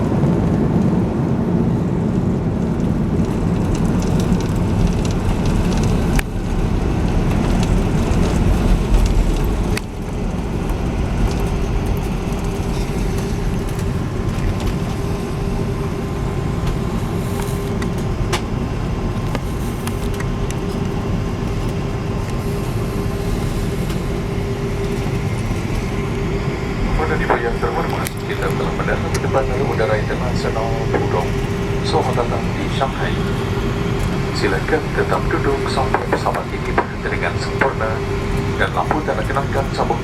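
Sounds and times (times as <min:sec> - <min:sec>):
aircraft cabin engine roar: 0:00.0 - 0:40.0
faint hum: 0:00.0 - 0:40.0.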